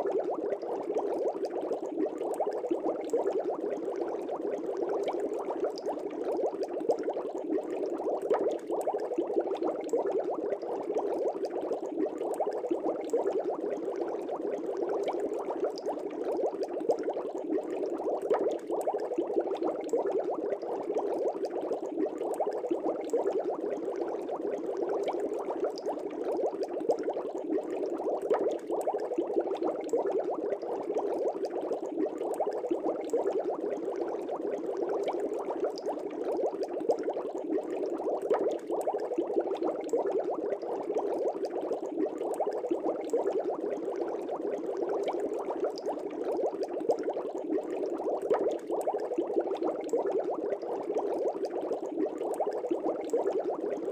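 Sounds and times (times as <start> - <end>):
aquarium air bubbling: 0.0 - 53.9.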